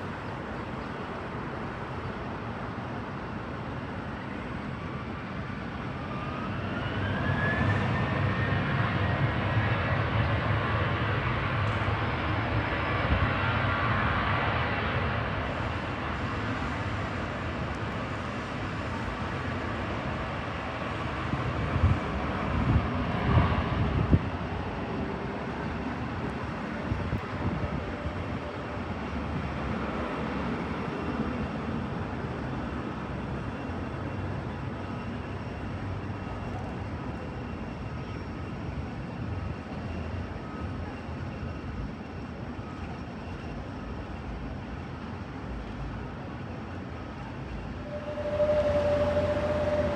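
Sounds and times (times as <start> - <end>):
airliner engine rush: 0.0 - 49.9.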